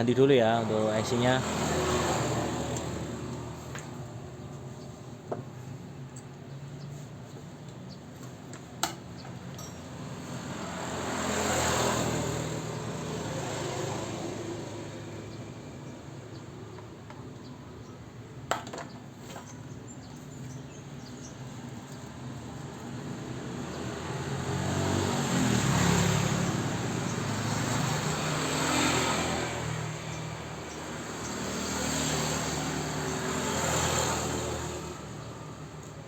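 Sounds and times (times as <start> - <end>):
vehicles passing by: 0.0 - 36.0.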